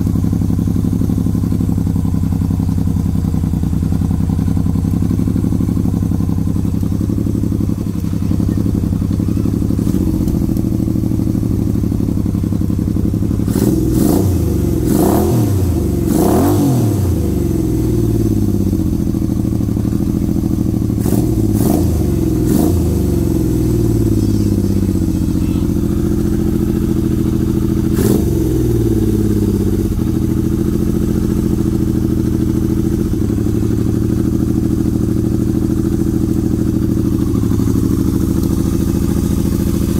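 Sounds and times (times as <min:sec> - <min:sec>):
engine throttle blips: 0:00.0 - 0:39.9
motorcycle engine idling: 0:00.0 - 0:39.9.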